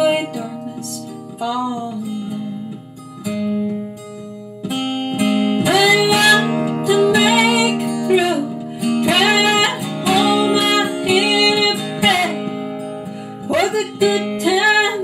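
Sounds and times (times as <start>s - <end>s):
woman singing: 0.0s - 3.4s, 5.4s - 15.0s
acoustic guitar chords: 0.0s - 15.0s.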